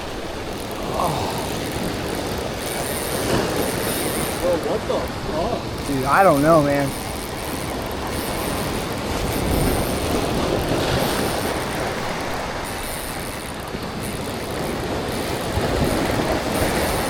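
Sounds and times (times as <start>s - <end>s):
surf noise: 0.0s - 17.0s.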